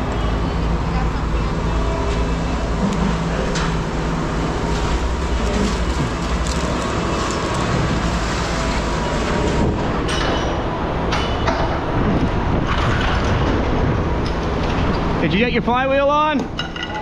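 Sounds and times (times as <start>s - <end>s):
machinery rumble: 0.0s - 17.0s.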